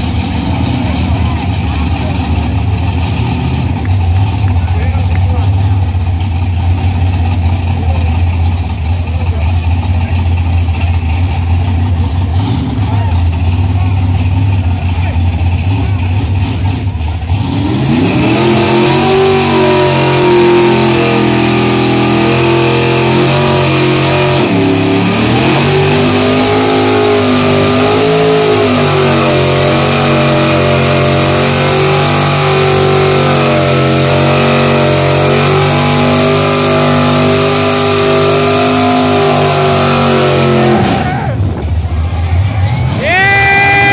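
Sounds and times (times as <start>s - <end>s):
car engine at high revs: 0.0s - 43.9s.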